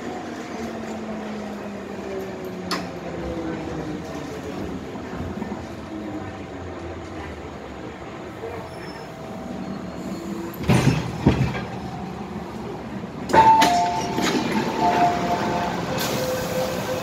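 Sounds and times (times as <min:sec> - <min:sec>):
train interior running noise: 0:00.0 - 0:17.0.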